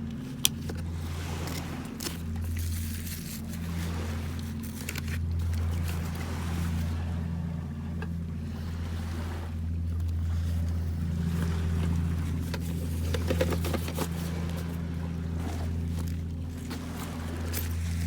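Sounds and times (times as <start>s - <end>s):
boat engine droning: 0.0s - 18.0s
wind and water hiss: 0.0s - 18.0s.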